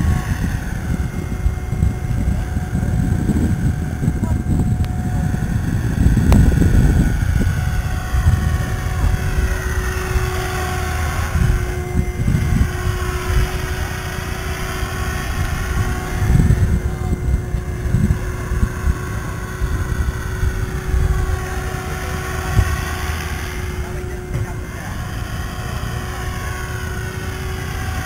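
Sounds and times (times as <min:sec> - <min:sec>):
model helicopter motor and rotor whine: 0:00.0 - 0:28.0
wind rumbling on microphone: 0:00.0 - 0:28.0.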